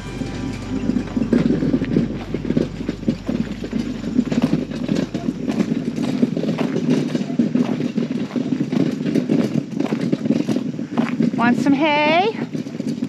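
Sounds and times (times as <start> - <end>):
footsteps crunching on gravel: 0.0 - 13.0.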